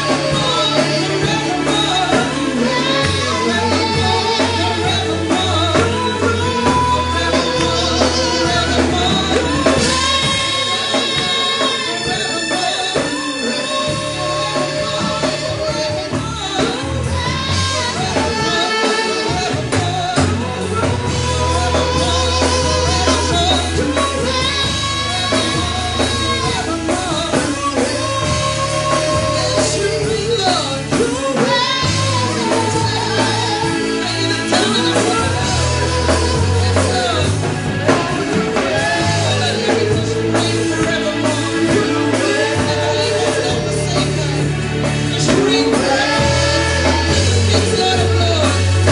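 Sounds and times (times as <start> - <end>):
band playing: 0.0 - 48.9
voices singing: 0.0 - 48.9.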